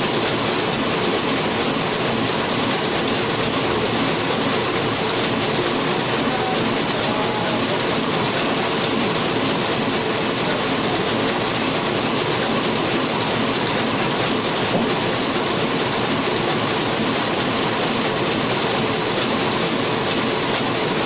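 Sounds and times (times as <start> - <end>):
printing press clattering: 0.0 - 21.0.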